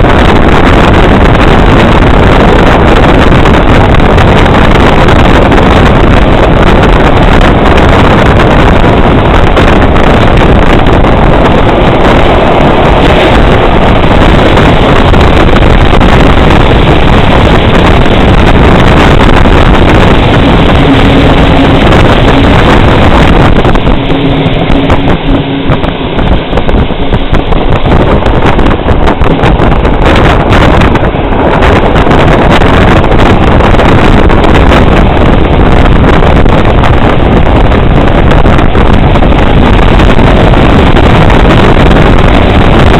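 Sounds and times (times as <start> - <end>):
low steady hum: 0.0 - 42.9
train running noise: 0.0 - 42.9
wind buffeting microphone: 0.0 - 42.9.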